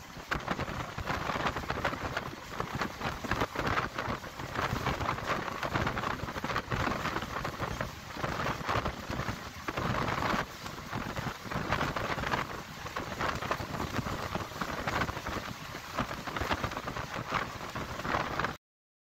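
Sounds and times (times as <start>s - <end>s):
train rumble: 0.0s - 18.6s.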